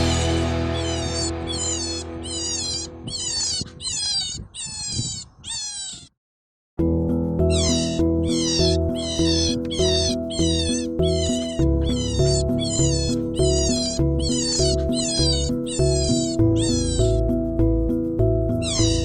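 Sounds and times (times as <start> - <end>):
background music: 0.0 - 3.3, 6.8 - 19.0
high-pitched animal squeals: 0.0 - 6.2, 7.4 - 17.4, 18.6 - 19.0.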